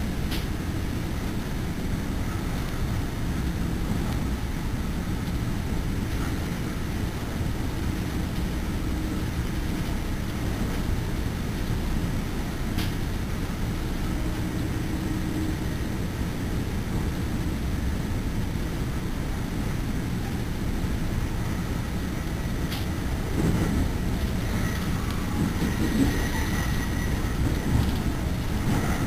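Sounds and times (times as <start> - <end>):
train wheels rolling on rails: 0.0 - 29.0
wind along train body: 0.0 - 29.0.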